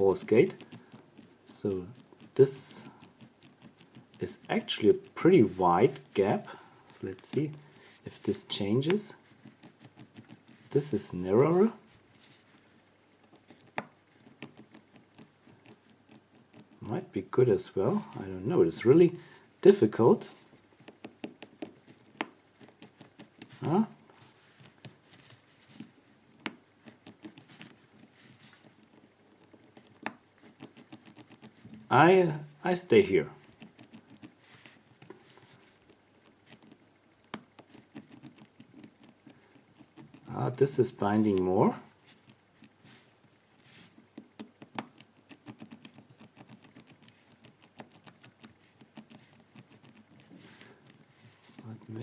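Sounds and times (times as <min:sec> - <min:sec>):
padlock wheels clicking: 0:00.0 - 0:07.6, 0:08.2 - 0:17.2, 0:20.8 - 0:31.9, 0:33.4 - 0:35.2, 0:35.8 - 0:41.4, 0:42.2 - 0:51.9.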